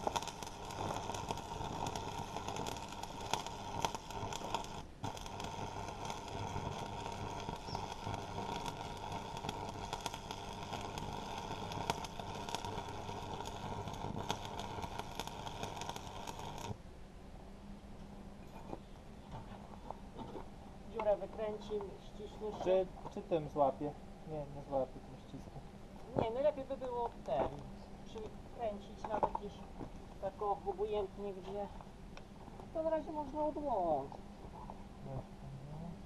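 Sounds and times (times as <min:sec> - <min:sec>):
arc welding crackle and pops: 0:00.0 - 0:16.8, 0:19.8 - 0:23.7, 0:26.0 - 0:34.8.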